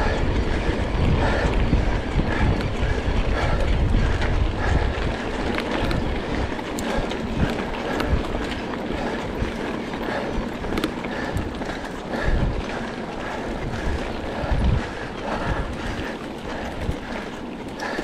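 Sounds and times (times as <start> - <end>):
bike rattling: 0.0 - 18.0
wind buffeting microphone: 0.0 - 18.0.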